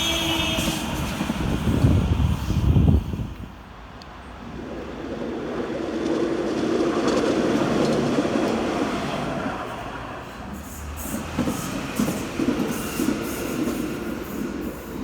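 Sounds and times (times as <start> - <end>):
tram passing by: 0.0 - 15.0.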